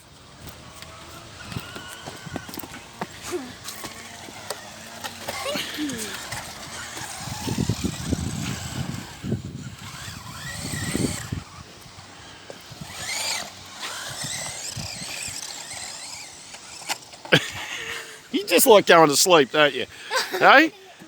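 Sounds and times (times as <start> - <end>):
electric toy truck motors whining: 0.0 - 21.0.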